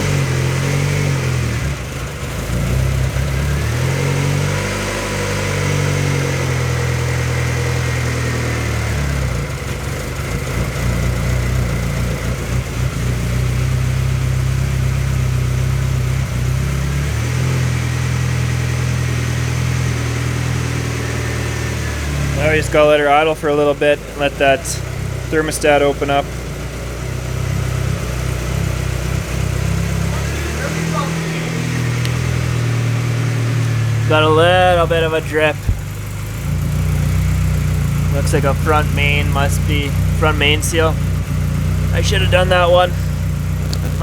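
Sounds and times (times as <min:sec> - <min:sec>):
car engine idling unevenly: 0:00.0 - 0:44.0.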